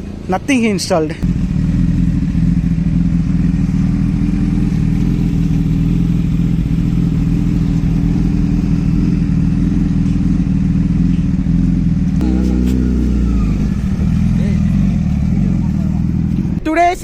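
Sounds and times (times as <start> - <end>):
motorcycle engine droning: 0.0 - 16.7.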